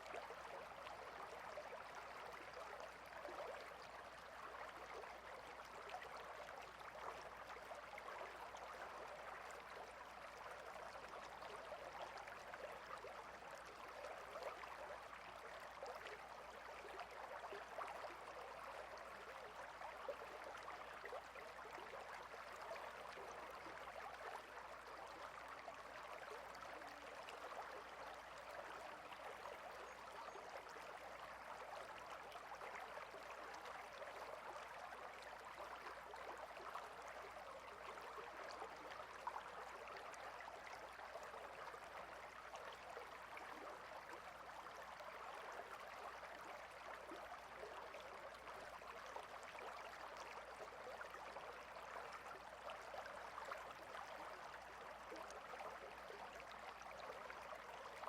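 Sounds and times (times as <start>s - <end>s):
small stream babbling: 0.0s - 58.0s.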